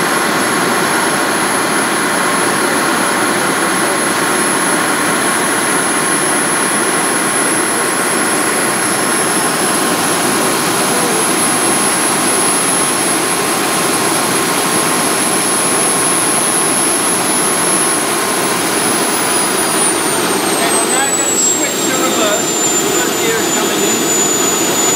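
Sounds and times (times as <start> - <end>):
gas turbine roar with high whine: 0.0 - 24.9.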